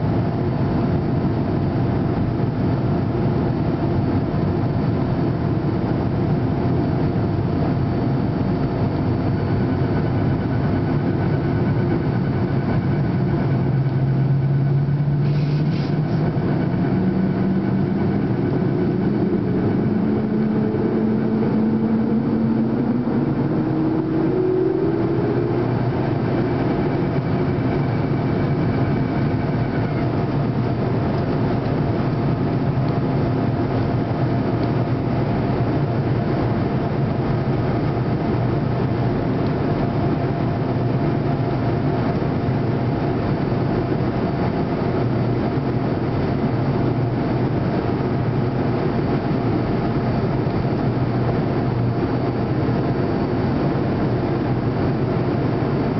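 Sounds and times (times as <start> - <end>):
aircraft cabin engine noise: 0.0 - 55.9
high-pitched whine: 0.0 - 55.9
low hum: 0.0 - 55.9.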